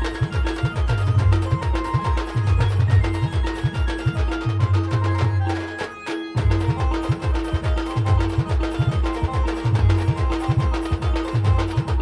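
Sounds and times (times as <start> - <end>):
fast drum beat: 0.0 - 12.0.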